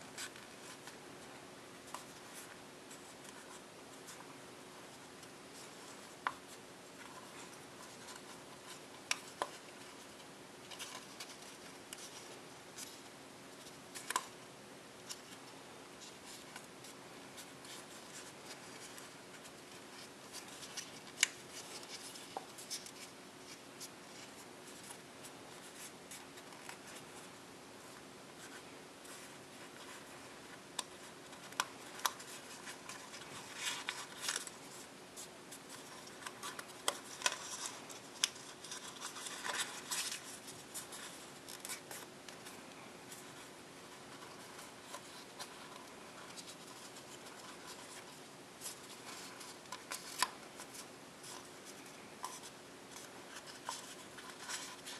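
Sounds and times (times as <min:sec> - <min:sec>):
paper rustling and crinkling: 0:00.0 - 0:14.4, 0:15.0 - 0:54.9
faint steady hum: 0:00.0 - 0:54.9.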